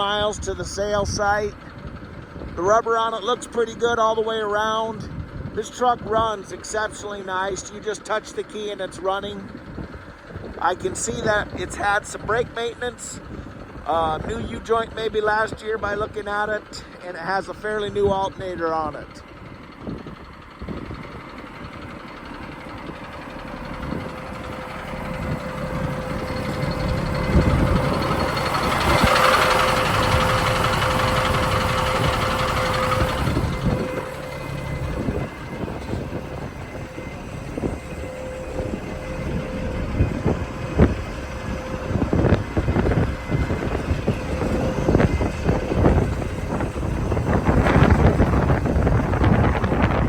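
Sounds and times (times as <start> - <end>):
diesel truck engine rumbling: 0.0 - 50.0.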